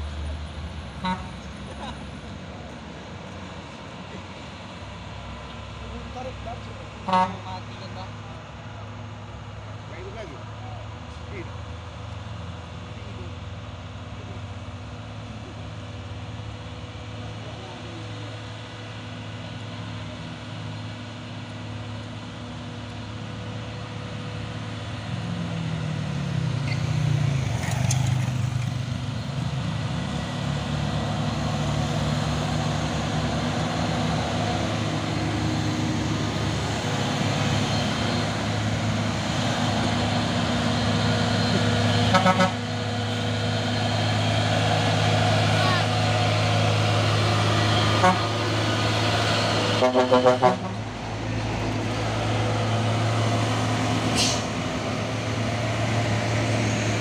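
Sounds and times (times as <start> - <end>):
diesel engines labouring uphill: 0.0 - 57.0.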